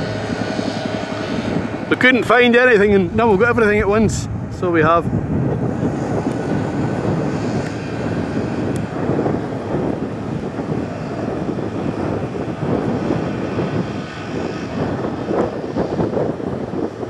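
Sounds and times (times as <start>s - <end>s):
helicopter rotors and engines: 0.0s - 17.0s.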